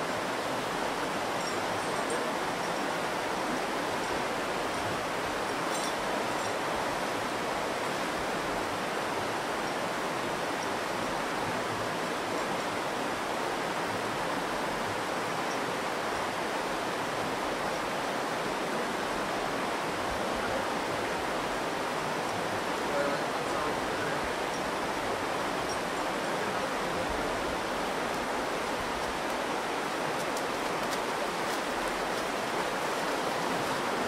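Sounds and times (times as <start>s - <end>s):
river water flowing: 0.0s - 34.0s.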